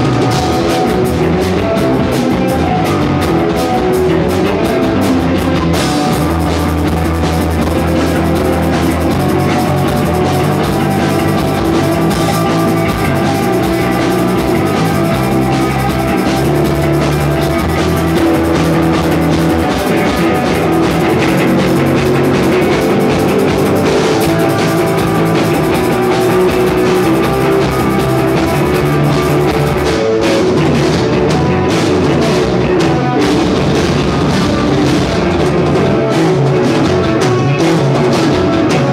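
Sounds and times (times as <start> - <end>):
drum kit: 0.0 - 38.9
guitar: 0.0 - 38.9
rock band playing: 0.0 - 38.9.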